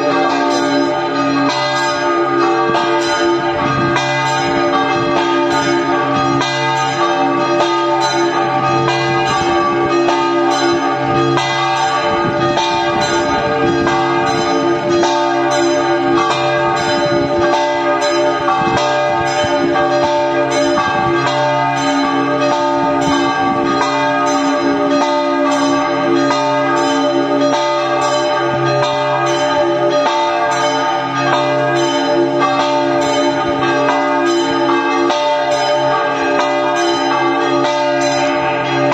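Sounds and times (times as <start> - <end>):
church bells ringing peal: 0.0 - 38.9.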